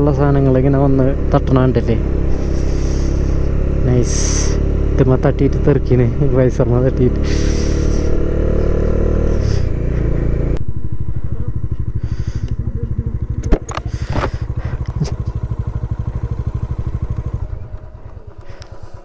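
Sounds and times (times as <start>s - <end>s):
motorcycle engine slowing to idle: 0.0s - 19.0s.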